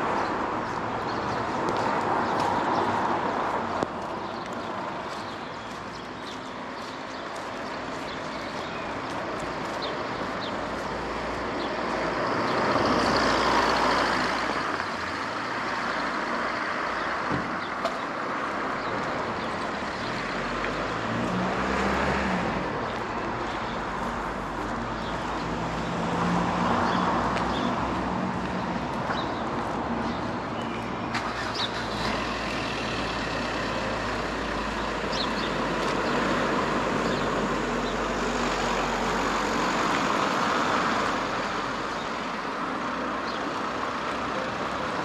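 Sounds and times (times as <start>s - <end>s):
vehicles passing: 0.0s - 45.0s.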